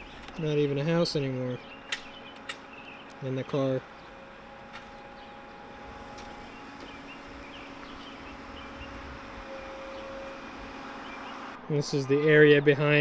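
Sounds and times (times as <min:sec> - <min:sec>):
steady low hum with tones: 0:00.0 - 0:13.0.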